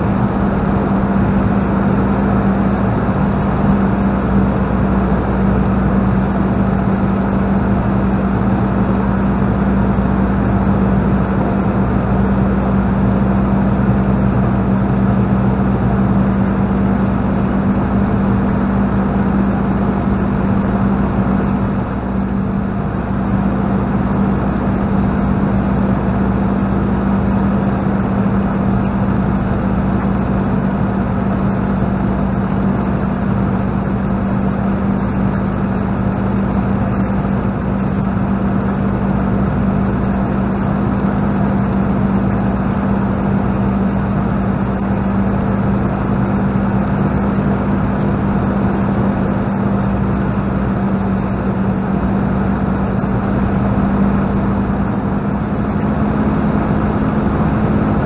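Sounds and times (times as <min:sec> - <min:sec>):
aircraft engine and propeller droning: 0:00.0 - 0:58.0.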